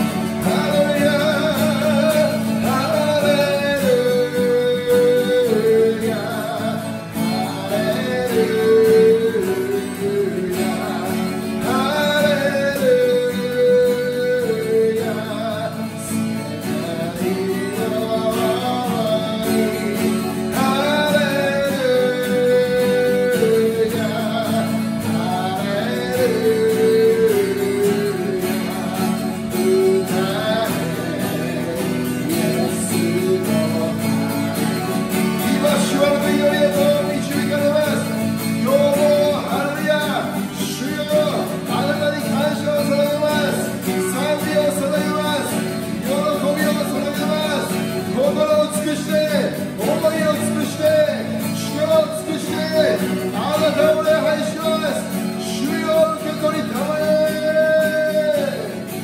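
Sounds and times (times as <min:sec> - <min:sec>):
acoustic guitar: 0:00.0 - 0:59.0
man singing: 0:00.0 - 0:59.0.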